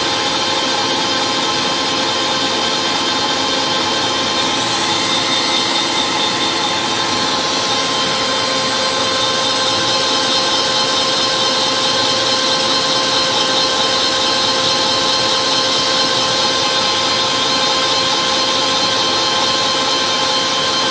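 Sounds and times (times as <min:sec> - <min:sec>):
grinding spindle whining hiss: 0:00.0 - 0:20.9.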